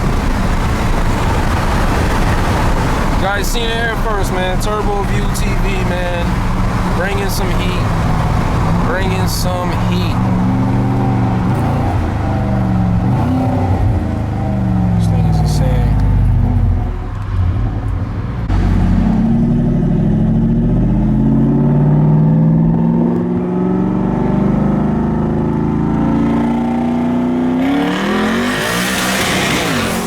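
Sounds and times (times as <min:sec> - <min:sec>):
truck engine accelerating: 0:00.0 - 0:30.0.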